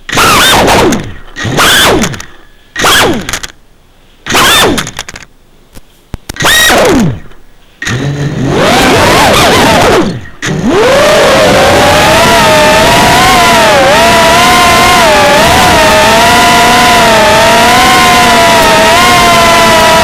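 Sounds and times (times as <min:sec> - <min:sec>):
drone motors whining: 0:00.0 - 0:03.6, 0:04.3 - 0:05.3, 0:06.3 - 0:20.0.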